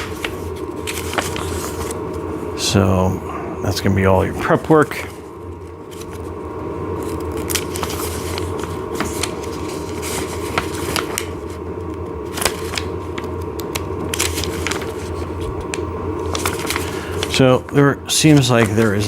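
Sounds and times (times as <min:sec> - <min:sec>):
paper rustling: 0:00.0 - 0:02.5, 0:04.4 - 0:19.0
steady low hum: 0:00.0 - 0:19.0.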